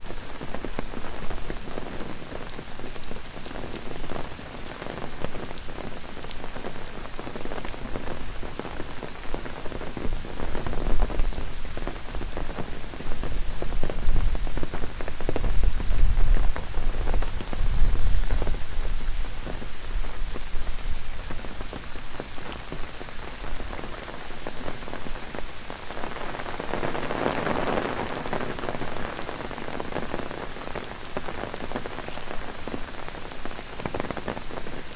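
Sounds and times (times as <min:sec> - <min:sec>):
cicadas buzzing: 0:00.0 - 0:34.9
heavy rain on umbrella: 0:00.0 - 0:34.9.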